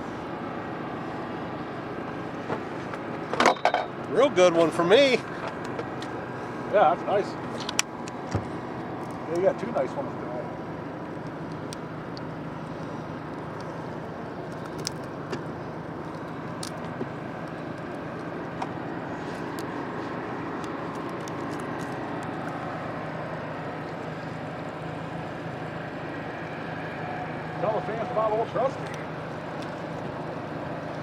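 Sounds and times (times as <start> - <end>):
boat motor humming: 0.0 - 31.0.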